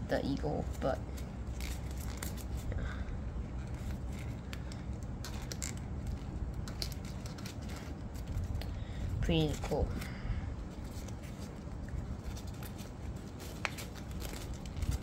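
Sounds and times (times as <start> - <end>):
paper rustling and crinkling: 0.6 - 15.0.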